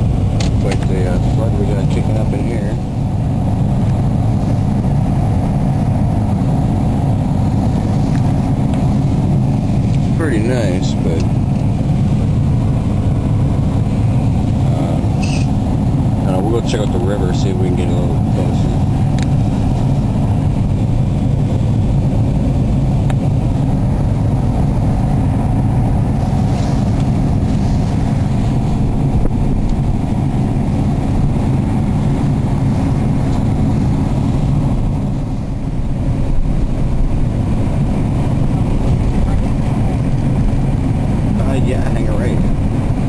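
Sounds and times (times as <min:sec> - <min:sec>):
car interior road rumble: 0:00.0 - 0:43.0.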